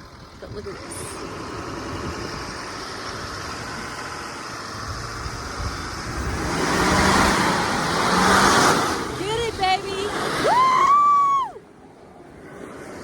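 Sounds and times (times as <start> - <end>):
pickup engine revving: 0.0 - 11.3.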